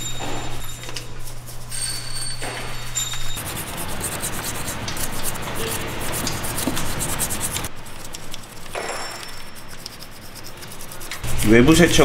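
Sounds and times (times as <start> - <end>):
brush scrubbing metal: 0.0 - 12.0.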